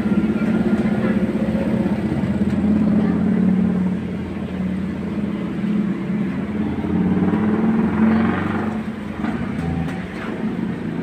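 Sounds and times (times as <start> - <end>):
engine humming steadily: 0.0 - 11.0.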